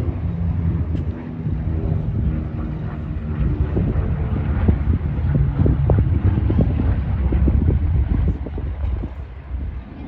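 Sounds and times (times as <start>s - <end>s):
aircraft radial engines humming: 0.0s - 10.0s
wind rumbling on microphone: 0.0s - 10.0s.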